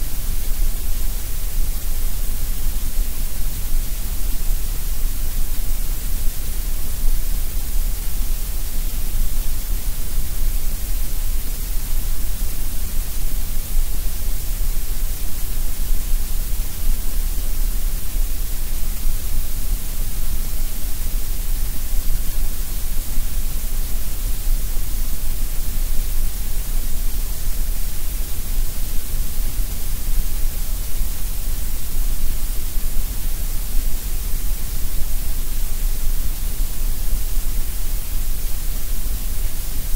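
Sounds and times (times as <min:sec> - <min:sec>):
constant hiss: 0:00.0 - 0:39.9.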